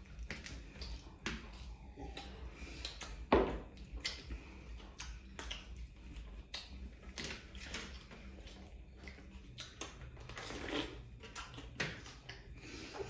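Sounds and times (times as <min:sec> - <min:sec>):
chewing and mouth clicks: 0:00.0 - 0:13.0.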